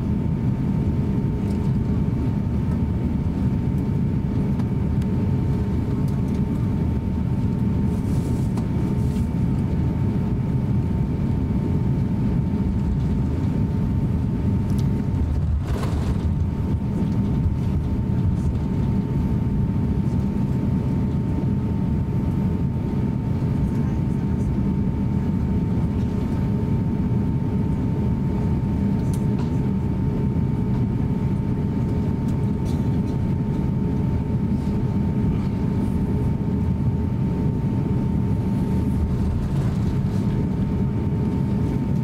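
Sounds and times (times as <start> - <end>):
jet engines rumbling: 0.0 - 42.0
thin steady whine: 0.0 - 42.0.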